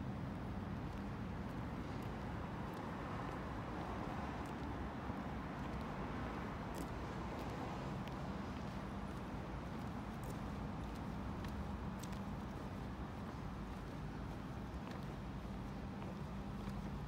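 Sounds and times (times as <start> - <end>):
steady traffic hum: 0.0 - 17.0.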